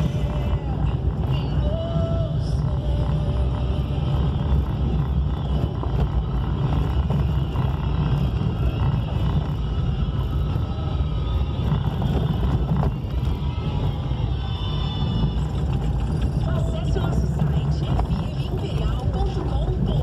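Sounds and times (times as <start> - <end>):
vehicle rumbling on dirt road: 0.0 - 20.0.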